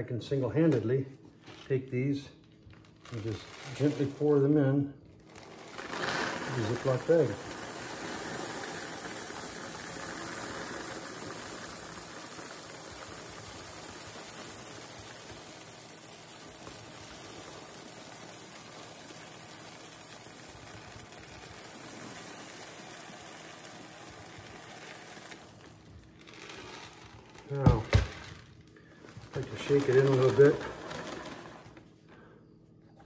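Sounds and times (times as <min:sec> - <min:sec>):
frozen berries pouring into bag: 0:02.7 - 0:31.8.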